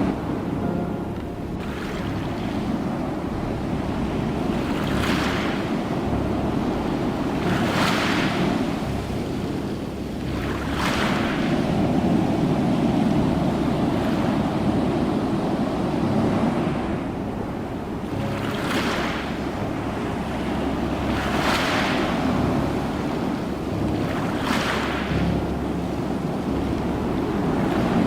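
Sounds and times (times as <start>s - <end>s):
ocean surf rumble: 0.0s - 28.0s
waves breaking and washing in: 0.0s - 28.0s.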